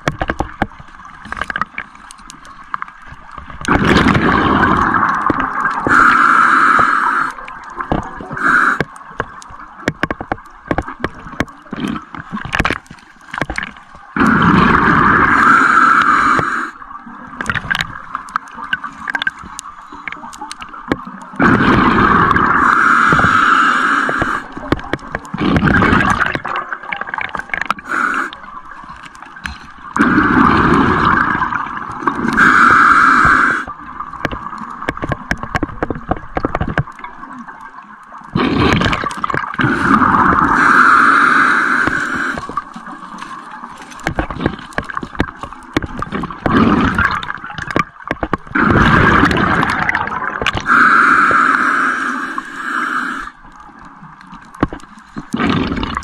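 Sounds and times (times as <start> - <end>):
underwater exhaled bubbles gurgling: 0.0 - 56.0.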